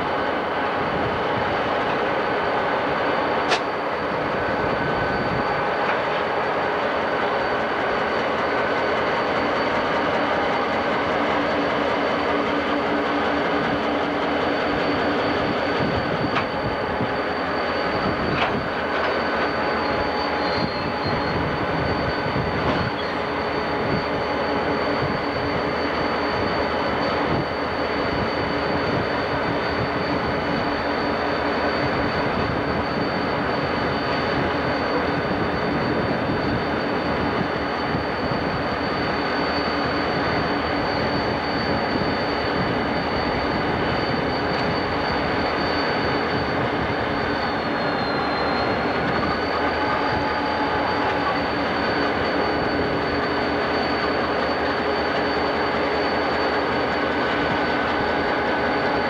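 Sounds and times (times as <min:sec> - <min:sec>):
diesel locomotive engine rumble: 0:00.0 - 0:59.0
train wheel noise: 0:00.0 - 0:59.0.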